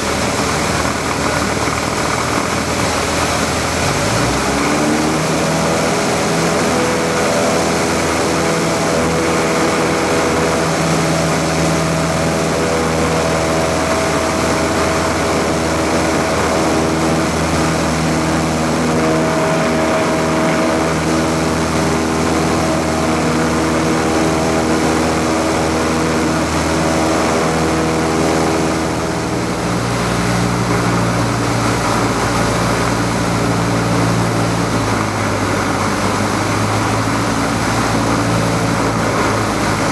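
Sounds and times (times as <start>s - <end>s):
aircraft piston engine and propeller: 0.0s - 39.9s.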